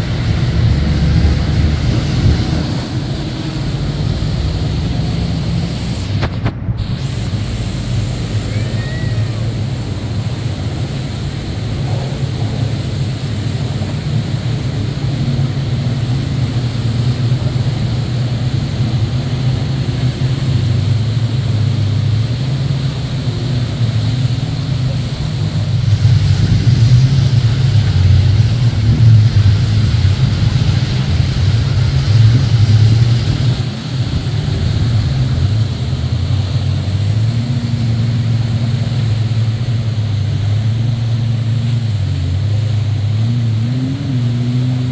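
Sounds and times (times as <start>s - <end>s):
jet ski and boat engines droning: 0.0s - 44.9s
wake water rushing: 0.0s - 44.9s.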